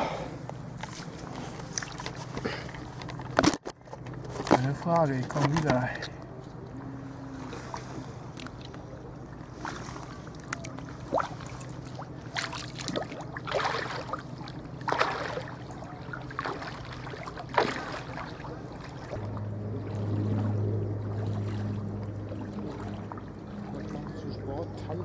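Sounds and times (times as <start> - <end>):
low steady hum: 0.0 - 25.0
bare feet splashing in water: 0.8 - 3.0, 6.8 - 25.0.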